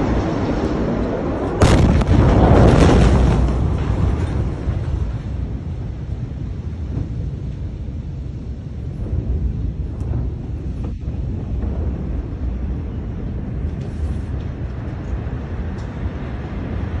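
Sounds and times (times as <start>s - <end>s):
explosion low rumble: 0.0s - 17.0s.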